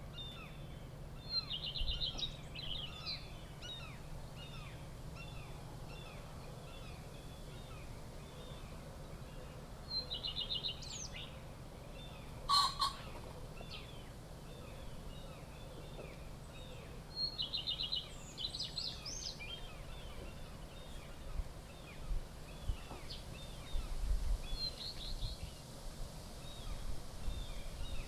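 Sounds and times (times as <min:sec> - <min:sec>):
small birds chirping: 0:00.0 - 0:25.8.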